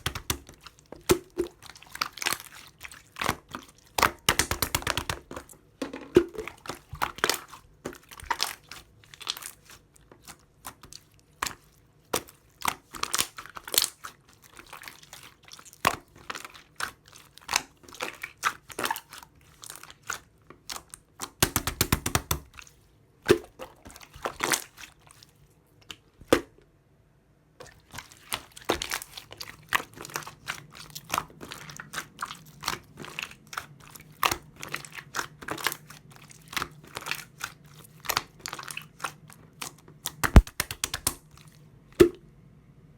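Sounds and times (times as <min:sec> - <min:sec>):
chewing grapes wet crunches: 0:00.0 - 0:05.6, 0:06.4 - 0:21.4, 0:27.6 - 0:42.1.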